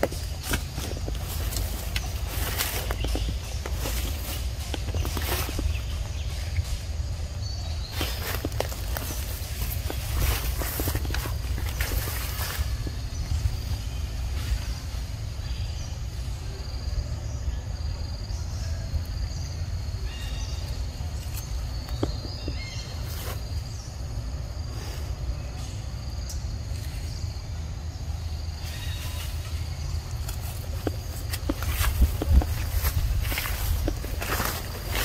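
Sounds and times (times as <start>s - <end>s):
rustles in undergrowth: 0.0s - 16.8s, 19.7s - 35.0s
insects droning: 0.0s - 35.0s
steady low rumble: 0.0s - 35.0s.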